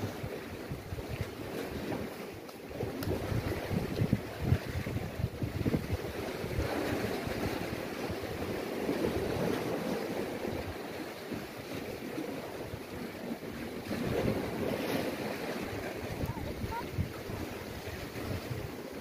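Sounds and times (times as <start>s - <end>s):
sea waves washing against rocks: 0.0s - 19.0s
wind buffeting microphone: 0.0s - 19.0s.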